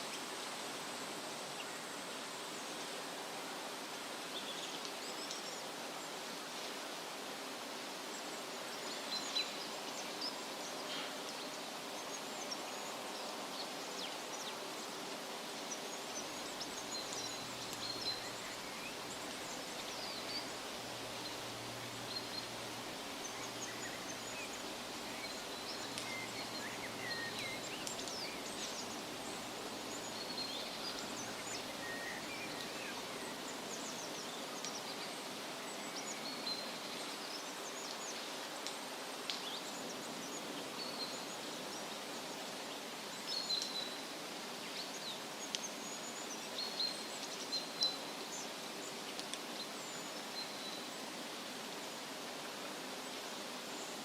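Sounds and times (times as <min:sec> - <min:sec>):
wind rustling leaves: 0:00.0 - 0:54.0
small birds chirping: 0:08.2 - 0:54.0.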